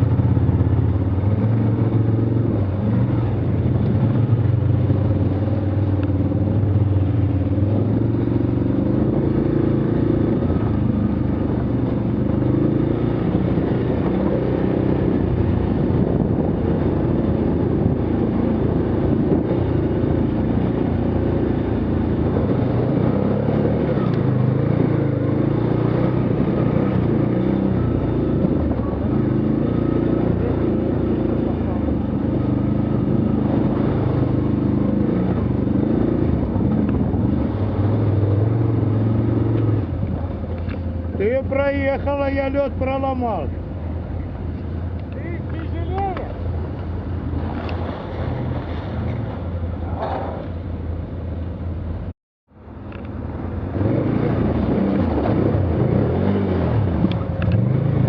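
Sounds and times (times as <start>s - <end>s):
small vehicle engine revving: 0.0s - 41.7s, 52.9s - 58.0s.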